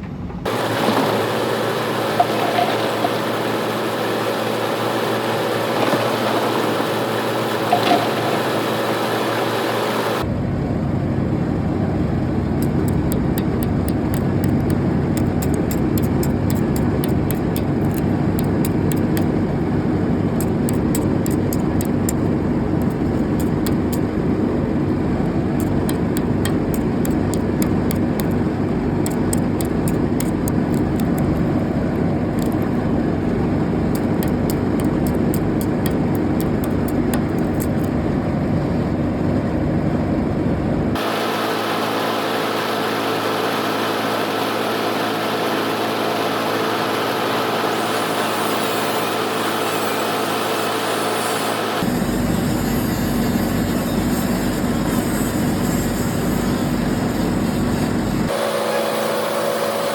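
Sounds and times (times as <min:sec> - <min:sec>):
machine engine running: 0:00.5 - 0:10.4, 0:12.0 - 0:39.4, 0:41.0 - 0:52.3, 0:56.2 - 0:59.9.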